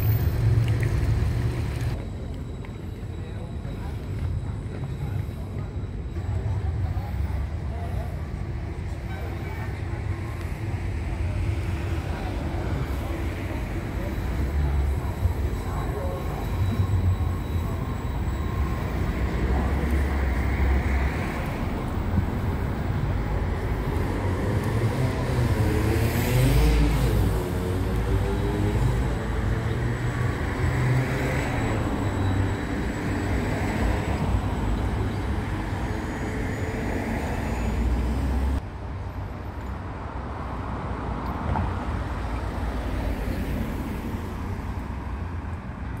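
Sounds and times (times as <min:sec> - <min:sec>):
street traffic: 0:00.0 - 0:46.0
tram rumbling past: 0:00.0 - 0:46.0.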